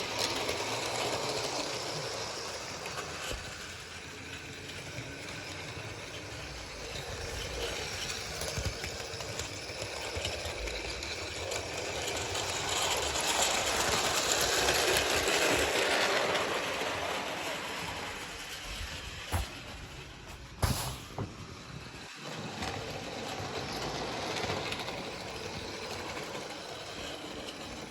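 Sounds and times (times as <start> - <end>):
model train rumbling and rattling: 0.0 - 27.9.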